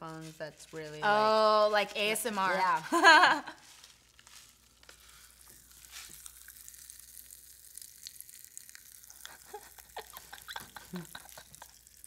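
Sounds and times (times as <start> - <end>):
popping candy crackling: 0.0 - 12.0.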